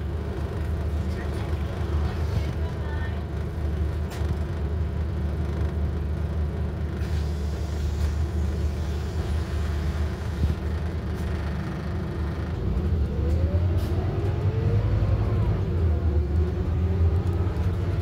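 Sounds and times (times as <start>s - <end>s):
bus diesel engine rumble: 0.0s - 18.0s.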